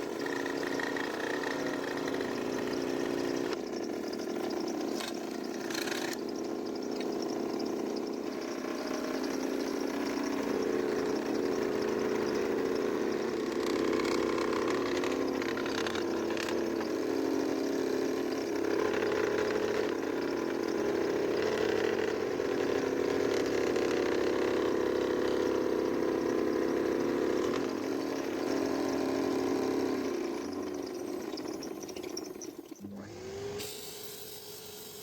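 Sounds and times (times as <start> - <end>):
power tool working wood: 0.0 - 35.0.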